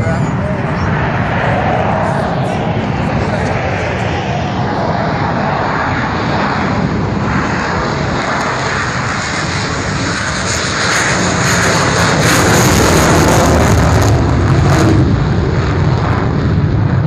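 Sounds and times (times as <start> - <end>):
high jet whine: 0.0 - 17.0
jet engines roaring: 0.0 - 17.0.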